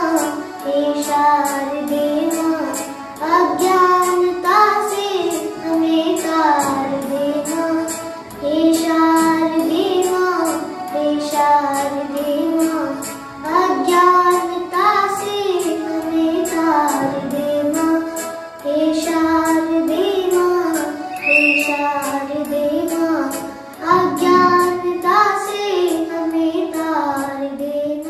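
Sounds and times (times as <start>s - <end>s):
accompaniment with steady beat: 0.0s - 27.4s
boy singing devotional song: 0.0s - 28.0s.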